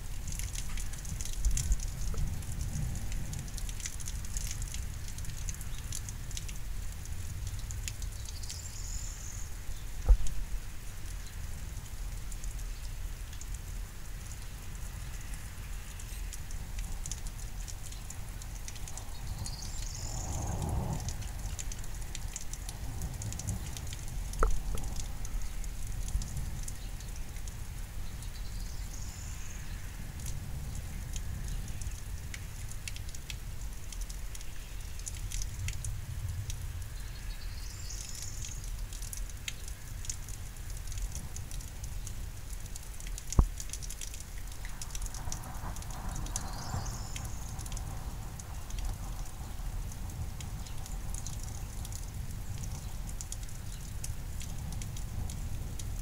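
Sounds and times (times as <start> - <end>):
rain patter: 0.0 - 56.0
wind rumbling on microphone: 0.0 - 56.0.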